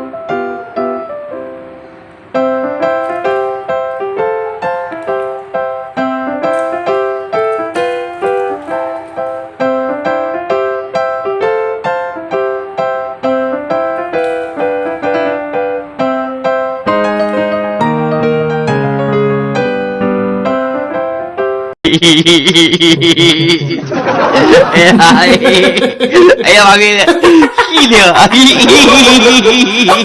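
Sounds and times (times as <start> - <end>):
piano playing light melody: 0.0 - 21.8, 24.0 - 26.4, 27.2 - 30.0.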